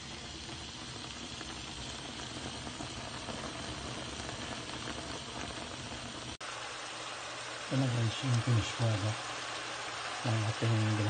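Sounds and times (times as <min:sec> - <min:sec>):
pot boiling and bubbling: 0:00.0 - 0:11.0.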